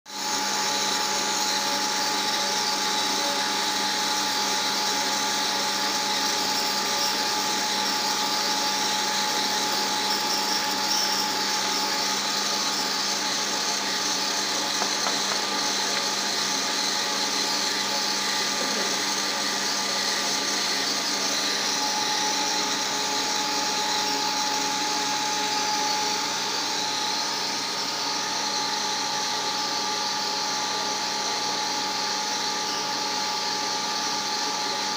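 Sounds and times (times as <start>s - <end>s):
machine whine: 0.1s - 34.9s.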